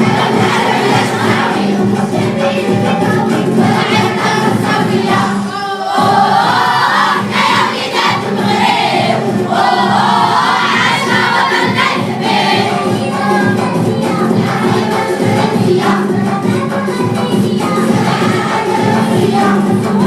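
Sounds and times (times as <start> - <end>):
vocal group singing: 0.0 - 20.0.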